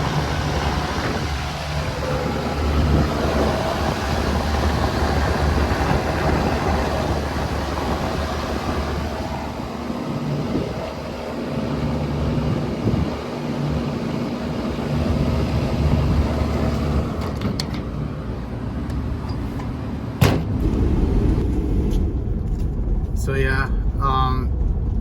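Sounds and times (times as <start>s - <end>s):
air conditioner humming: 0.0s - 22.4s.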